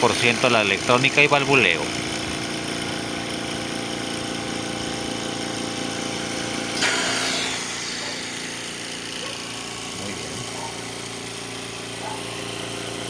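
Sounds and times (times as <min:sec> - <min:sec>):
oxygen concentrator hum: 0:00.0 - 0:13.0.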